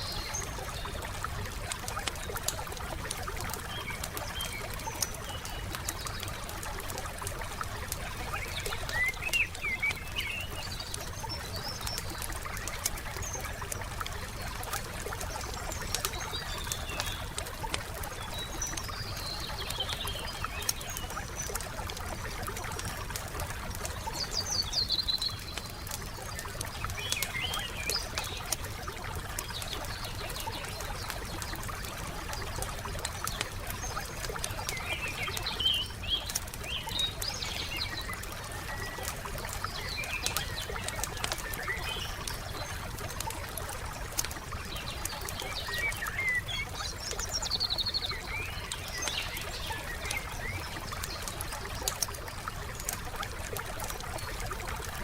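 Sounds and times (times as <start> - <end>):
wood fire crackling and popping: 0.2 - 24.5, 25.1 - 46.1, 46.7 - 55.0.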